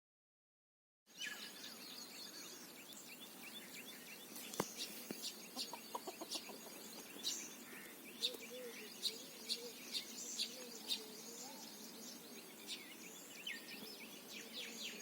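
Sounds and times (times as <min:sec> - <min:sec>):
birds chirping: 0:01.1 - 0:15.0.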